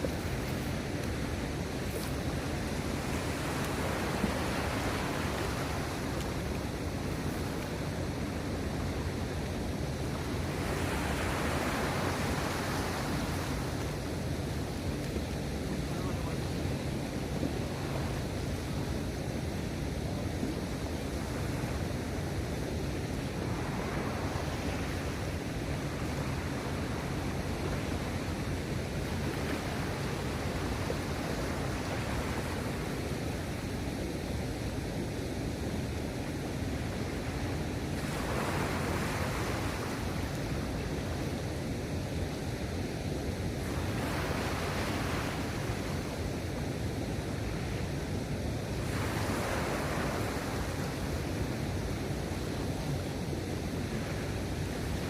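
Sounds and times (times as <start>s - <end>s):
sea waves washing on shore: 0.0s - 55.0s
wind rumbling on microphone: 0.0s - 55.0s.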